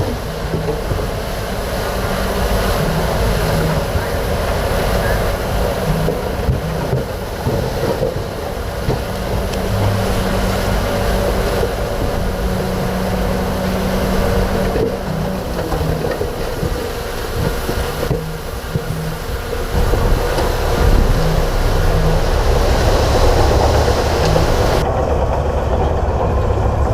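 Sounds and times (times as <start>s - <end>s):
bulldozer diesel engine rumbling: 0.0s - 26.9s.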